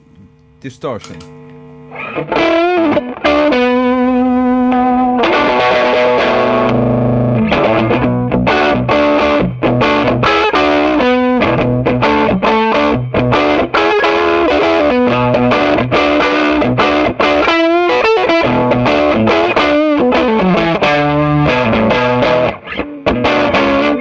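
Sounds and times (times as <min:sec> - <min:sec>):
distorted electric guitar: 0:01.0 - 0:24.0.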